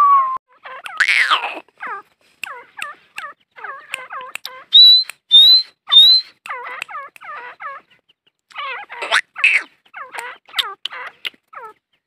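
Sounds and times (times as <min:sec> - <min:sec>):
francolins calling: 0:00.5 - 0:12.0.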